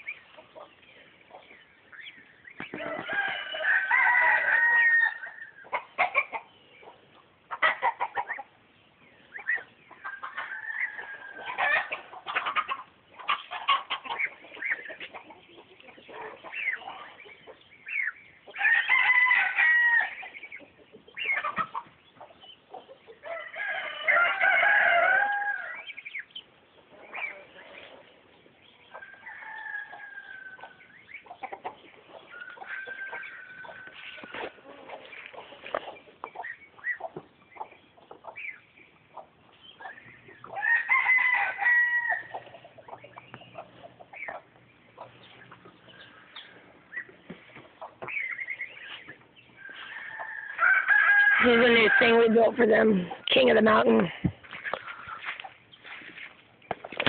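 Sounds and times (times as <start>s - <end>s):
farm animals calling: 0.0s - 57.0s.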